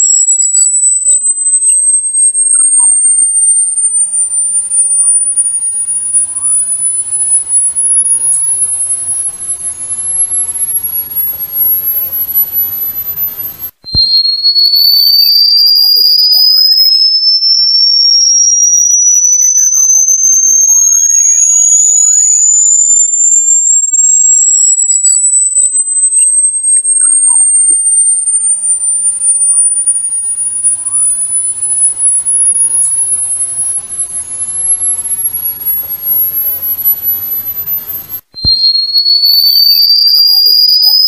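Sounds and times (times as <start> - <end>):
high-pitched electronic whistle: 0.0 - 41.0.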